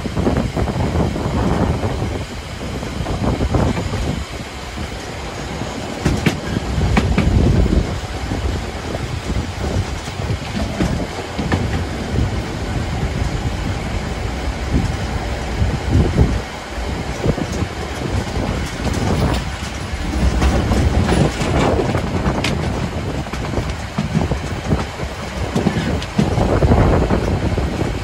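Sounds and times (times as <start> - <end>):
train rumbling on track: 0.0 - 28.0.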